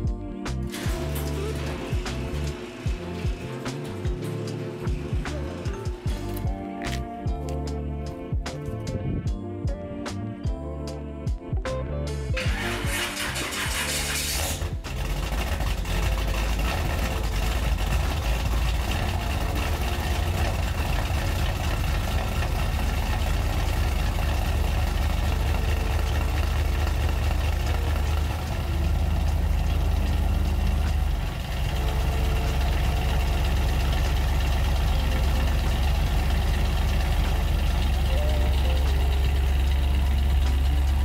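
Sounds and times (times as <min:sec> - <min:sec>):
car engine idling: 0:00.0 - 0:06.7, 0:12.3 - 0:41.0.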